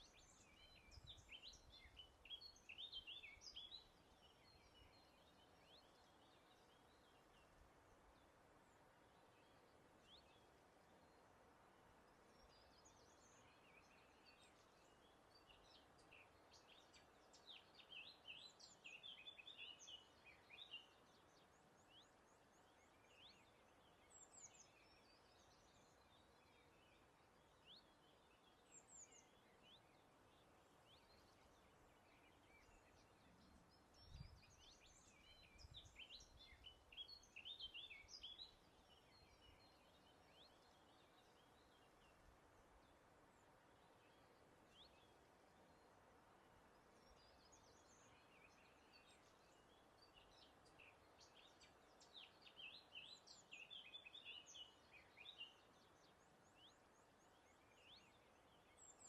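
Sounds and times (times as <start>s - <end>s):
soft hiss: 0.0s - 59.0s.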